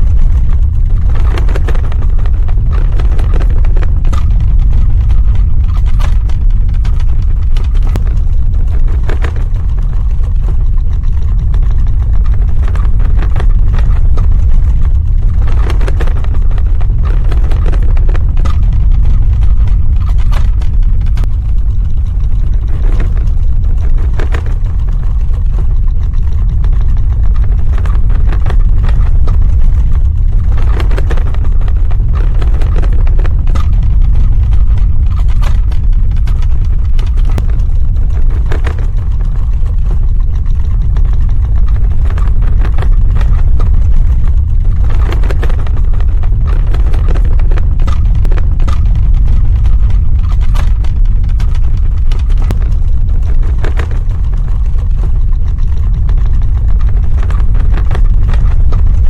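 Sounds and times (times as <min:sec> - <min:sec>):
deep ground rumble: 0:00.0 - 0:59.0.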